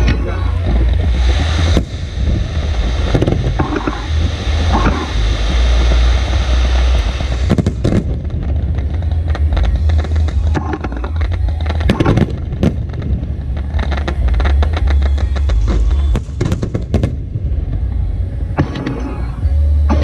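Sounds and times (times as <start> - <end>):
fireworks cracking and crackling: 0.0 - 20.0
fireworks deep rumble: 0.0 - 20.0.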